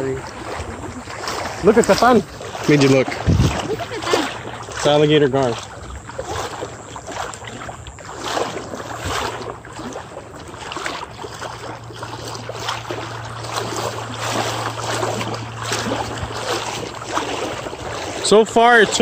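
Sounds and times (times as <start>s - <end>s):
legs wading through water: 0.0s - 19.0s.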